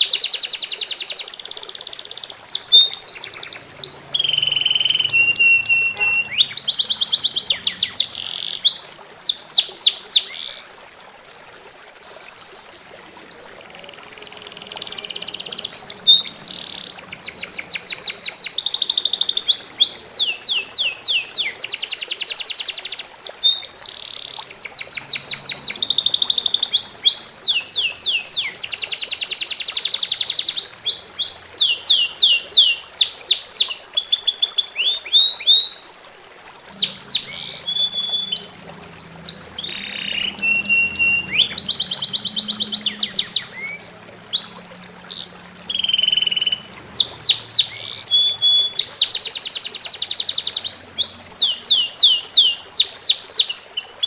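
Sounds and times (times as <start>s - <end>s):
songbird singing trills: 0.0s - 10.6s, 13.0s - 35.8s, 36.7s - 54.0s
faint trickle of water: 0.0s - 54.0s.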